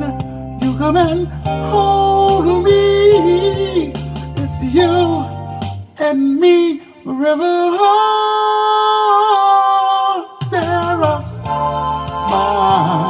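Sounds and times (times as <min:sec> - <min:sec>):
backing track with bass line: 0:00.0 - 0:13.0
person singing: 0:00.0 - 0:13.0.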